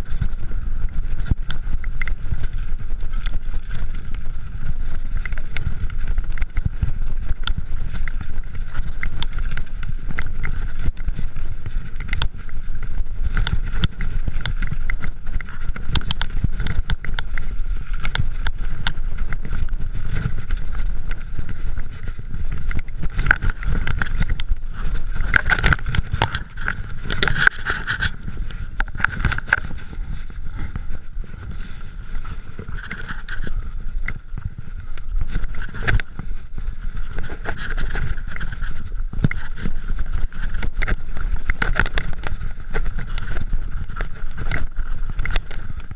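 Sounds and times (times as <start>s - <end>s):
bike rattling and knocking: 0.0s - 45.9s
bike tyre rumble: 0.0s - 45.9s
wind buffeting microphone: 0.0s - 45.9s.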